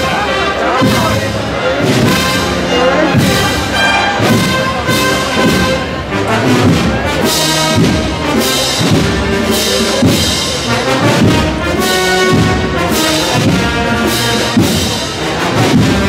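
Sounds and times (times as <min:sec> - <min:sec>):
brass and woodwind band march: 0:00.0 - 0:16.0
steady drum beat: 0:00.0 - 0:16.0.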